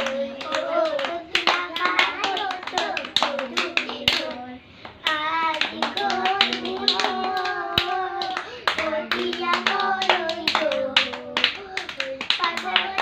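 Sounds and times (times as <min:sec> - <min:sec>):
children singing: 0:00.0 - 0:13.0
hands clapping: 0:00.0 - 0:13.0.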